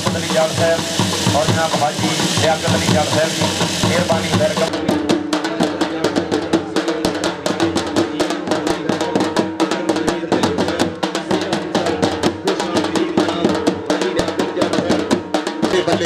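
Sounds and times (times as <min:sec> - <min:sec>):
drums beaten in fast rhythm: 0:00.0 - 0:16.0.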